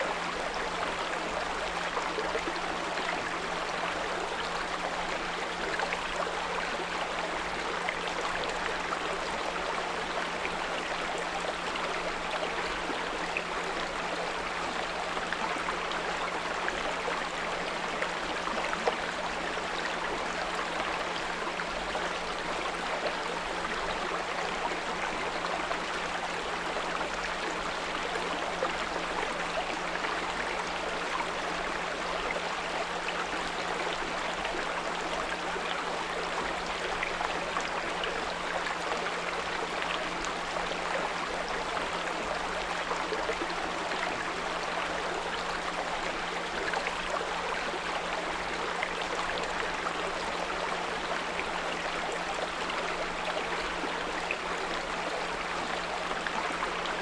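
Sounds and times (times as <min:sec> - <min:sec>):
brook trickling and gurgling: 0:00.0 - 0:57.0.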